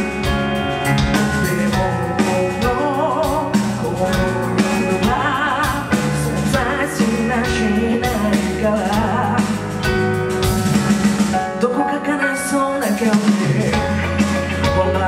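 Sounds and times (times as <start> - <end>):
person singing with vibrato: 0.0 - 10.0, 11.4 - 15.0
bass: 0.0 - 15.0
drums: 0.0 - 15.0.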